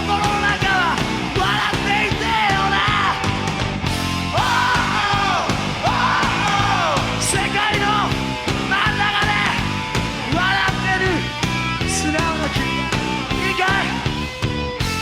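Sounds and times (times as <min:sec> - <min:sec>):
rock band music: 0:00.0 - 0:15.0
steady drum beat: 0:00.0 - 0:15.0.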